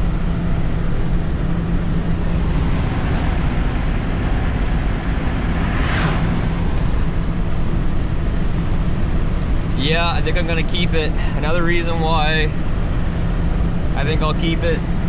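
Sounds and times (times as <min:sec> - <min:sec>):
diesel truck engine drone: 0:00.0 - 0:15.0
road and tyre noise: 0:00.0 - 0:15.0.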